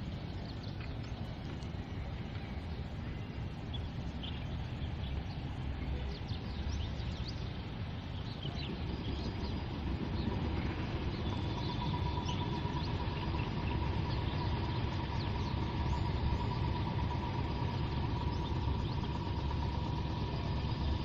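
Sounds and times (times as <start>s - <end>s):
steady low rumble: 0.0s - 21.0s
small birds chirping: 0.1s - 21.0s
thin steady tone: 1.7s - 21.0s.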